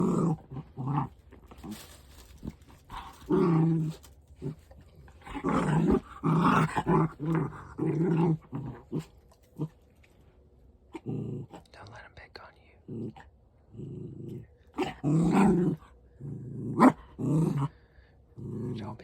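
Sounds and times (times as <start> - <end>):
dog growling: 0.0 - 10.0, 10.9 - 11.7, 12.8 - 19.0.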